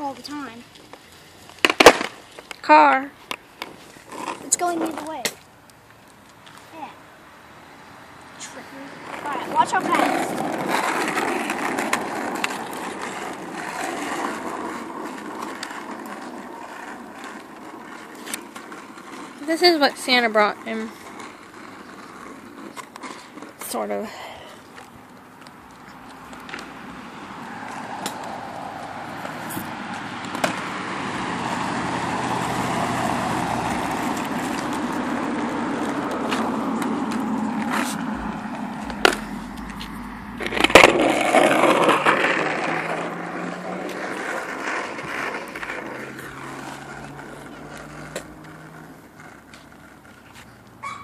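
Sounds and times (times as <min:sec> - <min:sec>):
small hard wheels rolling on pavement: 0:00.0 - 0:51.0.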